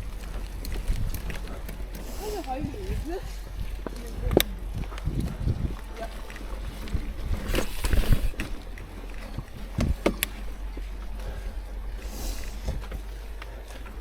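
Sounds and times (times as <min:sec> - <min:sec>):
bike clattering over roots: 0:00.0 - 0:14.0
steady low rumble: 0:00.0 - 0:14.0.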